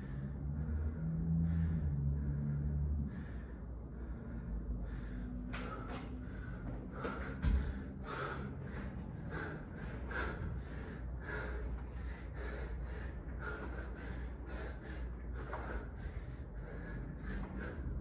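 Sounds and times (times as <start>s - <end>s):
man gasping heavily: 3.2s - 18.0s.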